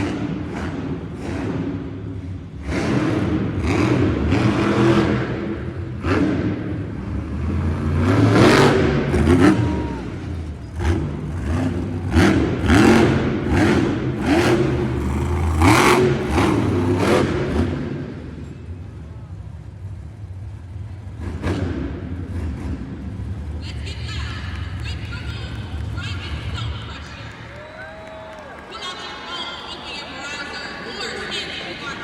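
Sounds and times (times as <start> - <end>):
truck engine revving hard: 0.0 - 27.4.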